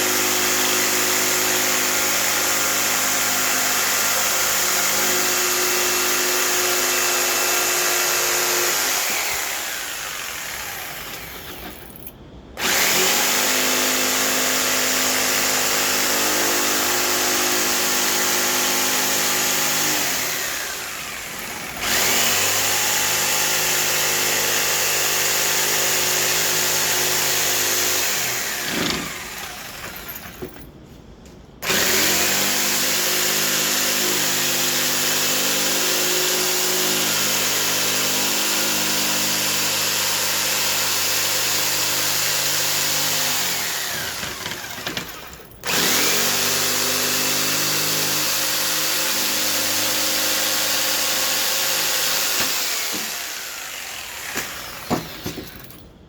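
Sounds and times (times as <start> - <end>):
power tool motor running: 0.0 - 12.0, 12.6 - 30.3, 31.6 - 55.8.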